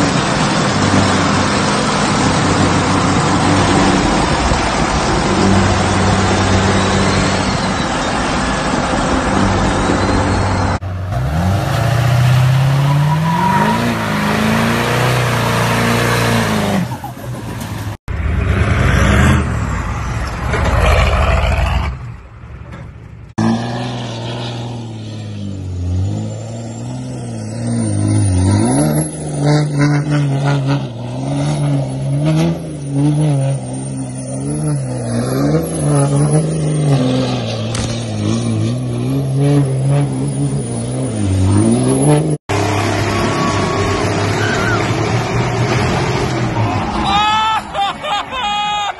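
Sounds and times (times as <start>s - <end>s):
diesel truck engine revving: 0.0s - 22.3s, 23.3s - 47.1s.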